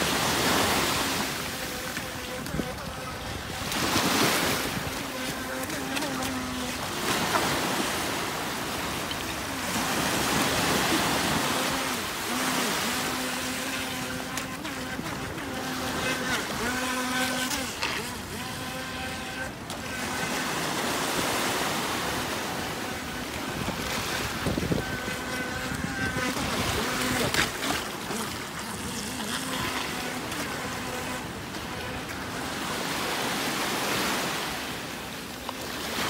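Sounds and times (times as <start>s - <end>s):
small waves washing: 0.0s - 36.0s
electric motor whining: 0.3s - 33.4s.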